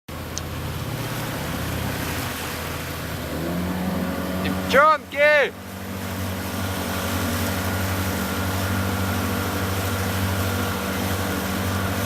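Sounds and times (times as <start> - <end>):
boat engine running: 0.1 - 12.0
wind: 0.1 - 12.0.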